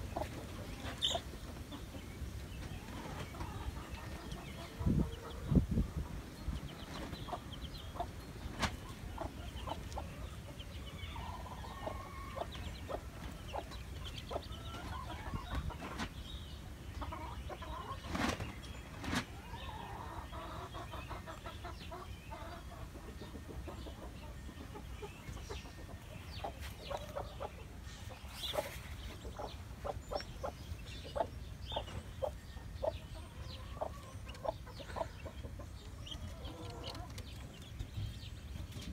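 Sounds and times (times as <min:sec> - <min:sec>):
hen and chicks clucking: 0:00.0 - 0:38.9.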